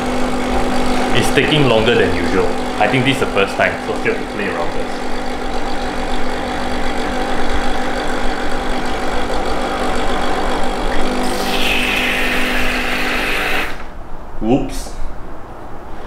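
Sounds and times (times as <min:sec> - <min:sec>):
espresso machine pump buzzing: 0:00.0 - 0:14.0.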